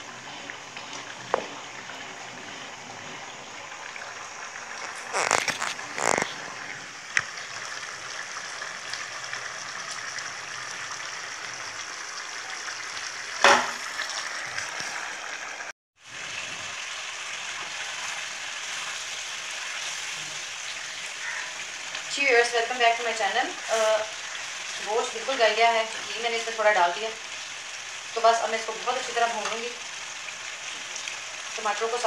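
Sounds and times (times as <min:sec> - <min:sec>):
curry sizzling and bubbling in pan: 0:00.0 - 0:32.0.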